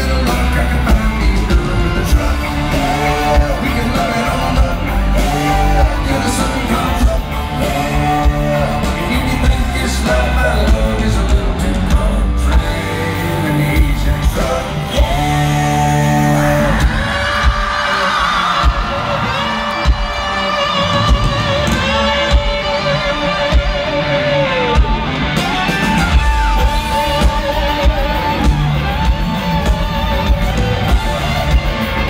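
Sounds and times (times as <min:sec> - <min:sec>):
country-rock band playing: 0:00.0 - 0:32.0.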